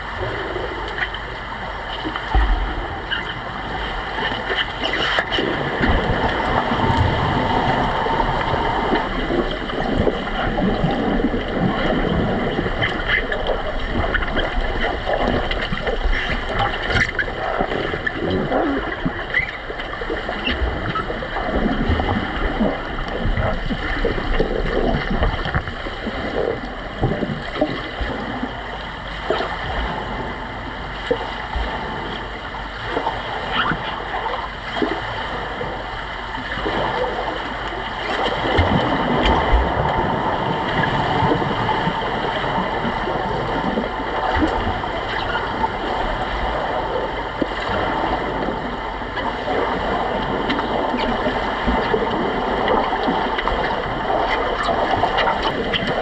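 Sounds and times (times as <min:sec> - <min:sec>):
underwater bubbles churning: 0:00.0 - 0:56.0
underwater knocks and clicks: 0:01.9 - 0:30.2, 0:36.6 - 0:46.1, 0:46.9 - 0:56.0.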